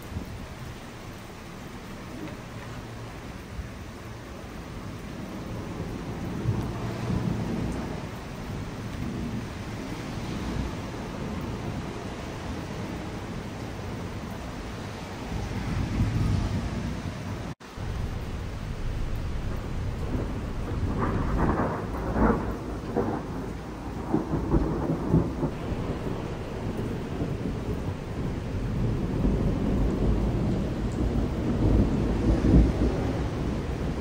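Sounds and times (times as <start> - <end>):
steady rain: 0.0 - 34.0
thunder rumbling: 0.0 - 34.0.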